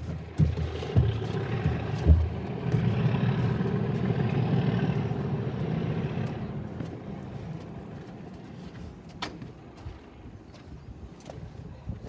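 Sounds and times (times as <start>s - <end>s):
diesel locomotive engines rumbling: 0.0s - 11.2s.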